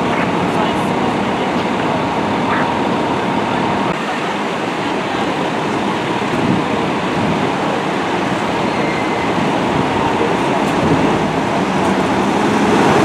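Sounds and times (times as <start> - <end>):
diesel engines idling: 0.0 - 13.0
street traffic: 0.0 - 13.0.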